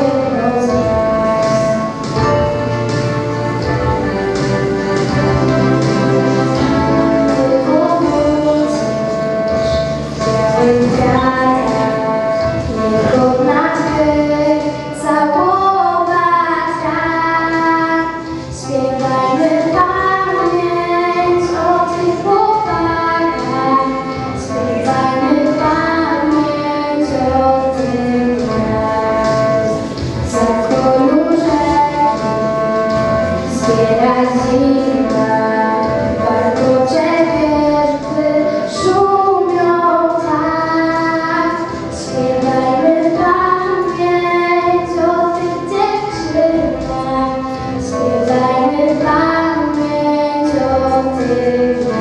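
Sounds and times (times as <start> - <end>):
girl singing into microphone: 0.0 - 2.6, 6.6 - 52.0
acoustic guitar: 0.0 - 52.0
keyboard: 0.0 - 52.0.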